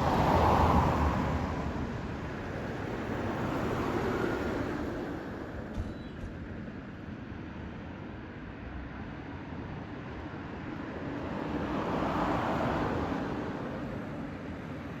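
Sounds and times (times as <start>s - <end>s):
steady traffic hum: 0.0s - 15.0s.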